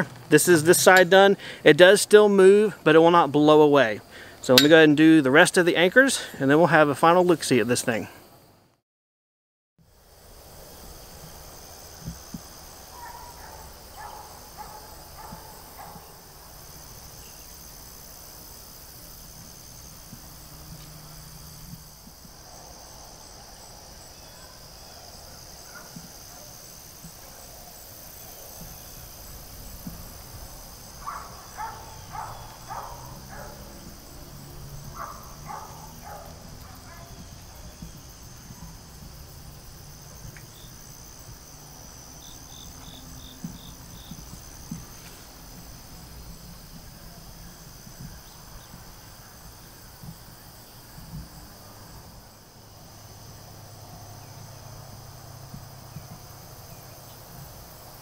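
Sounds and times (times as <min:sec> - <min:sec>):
crickets trilling: 0:00.0 - 0:08.6, 0:09.8 - 0:58.0.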